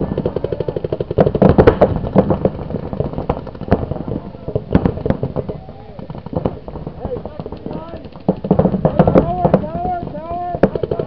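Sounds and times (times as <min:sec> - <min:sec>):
paintball markers firing: 0:00.0 - 0:11.0.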